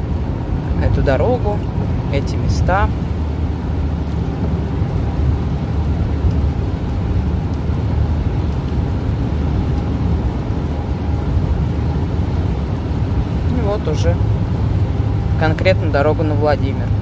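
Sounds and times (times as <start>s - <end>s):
car cabin rumble on wet road: 0.0s - 17.0s.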